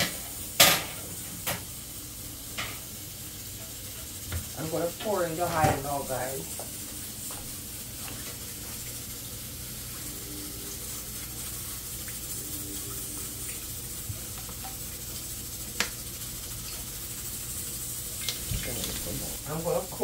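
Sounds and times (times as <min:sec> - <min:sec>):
stove hiss: 0:00.0 - 0:20.0.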